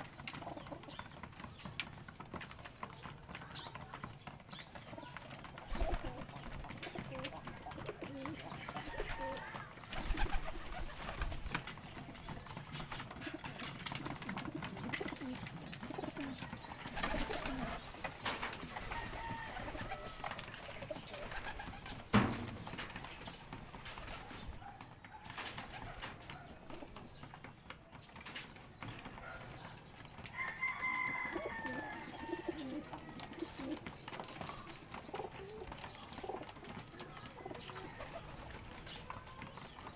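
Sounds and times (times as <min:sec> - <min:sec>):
birds cooing: 0:00.0 - 0:39.9
wings flapping: 0:00.0 - 0:39.9.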